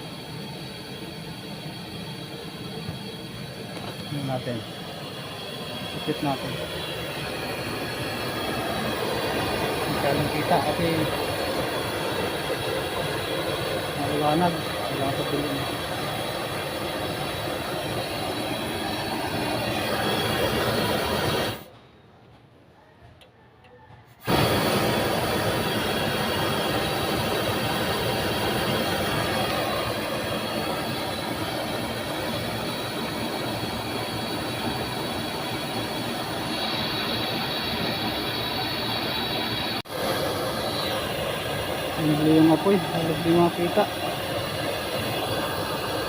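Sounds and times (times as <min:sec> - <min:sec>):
gas burner flame roaring: 0:00.0 - 0:21.8, 0:24.1 - 0:46.0.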